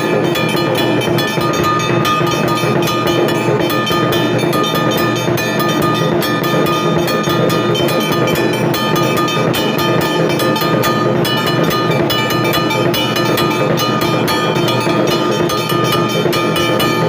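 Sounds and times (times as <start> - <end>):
temple bells ringing: 0.0 - 17.0.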